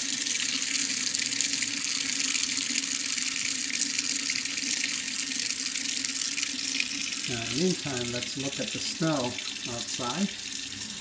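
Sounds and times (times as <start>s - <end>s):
faucet running into steel sink: 0.0s - 11.0s.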